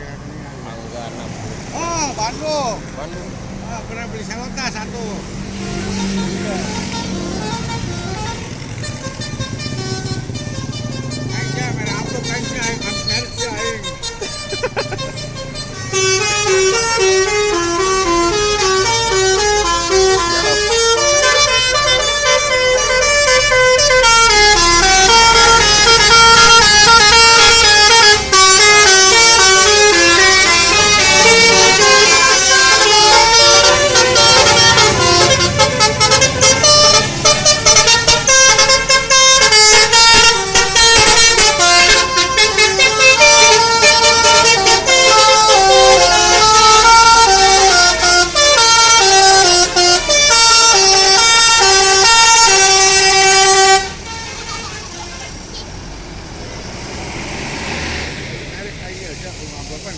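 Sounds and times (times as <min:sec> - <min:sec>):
bus engines rumbling: 0:00.0 - 0:59.9
musical bus horns playing a tune: 0:05.2 - 0:57.1.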